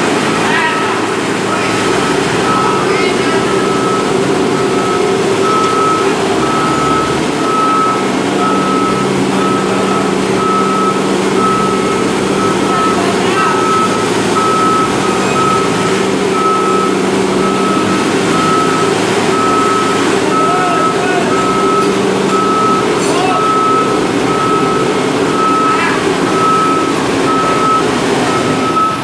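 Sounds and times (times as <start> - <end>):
loader engine running: 0.0 - 29.0
reversing alarm beeping: 0.8 - 29.0.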